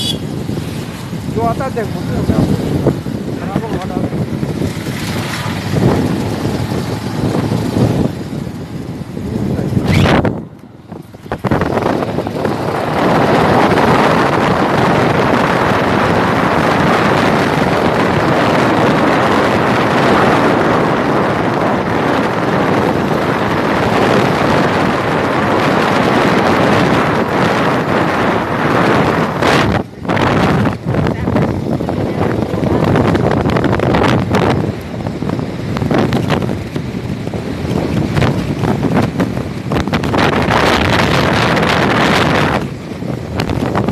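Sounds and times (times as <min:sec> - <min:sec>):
motorcycle wind and road noise: 0:00.0 - 0:43.9.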